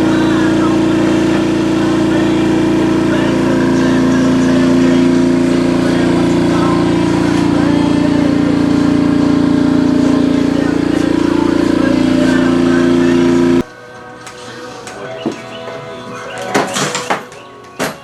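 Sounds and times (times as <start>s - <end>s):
engine droning: 0.0s - 17.7s.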